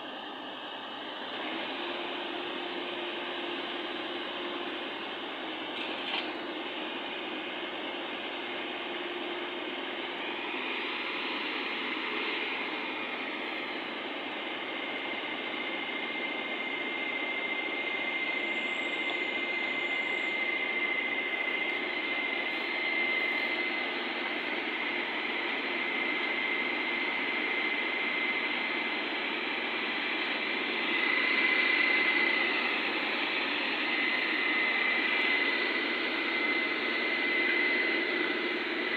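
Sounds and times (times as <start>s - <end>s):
excavator diesel engine running: 0.0s - 38.9s
steady high whine: 0.0s - 38.9s.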